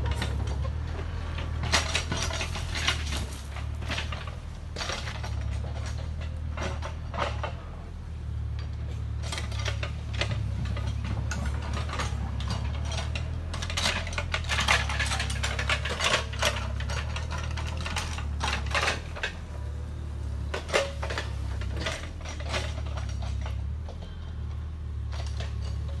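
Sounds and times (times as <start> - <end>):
excavator diesel engine droning: 0.0 - 26.0
tracks and bucket clanking: 0.0 - 26.0.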